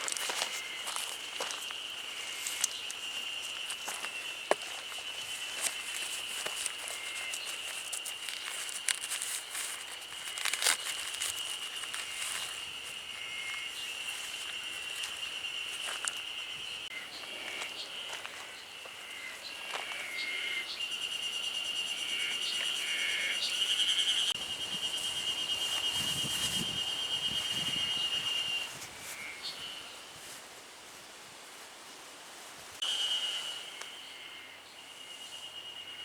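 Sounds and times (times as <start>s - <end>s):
insect trilling: 0.0s - 29.8s, 32.8s - 36.0s.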